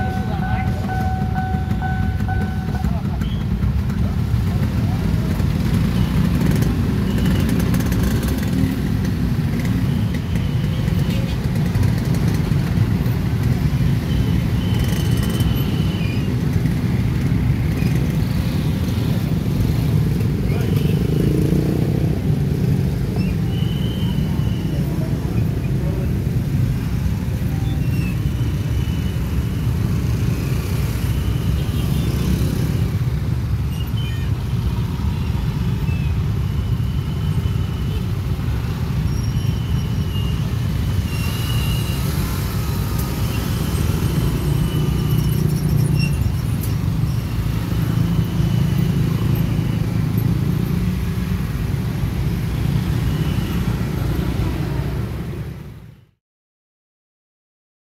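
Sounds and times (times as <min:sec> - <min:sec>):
motorcycle and car traffic: 0:00.0 - 0:56.2.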